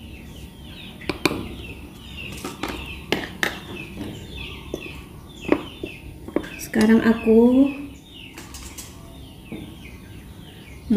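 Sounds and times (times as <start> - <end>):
bird chirping: 0.0 - 10.9.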